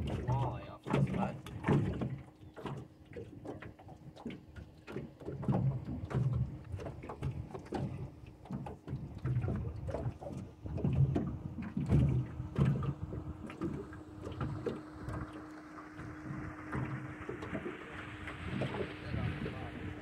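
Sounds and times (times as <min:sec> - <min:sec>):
knocks and thumps from boat: 0:00.0 - 0:20.0
water lapping at hull: 0:00.0 - 0:20.0.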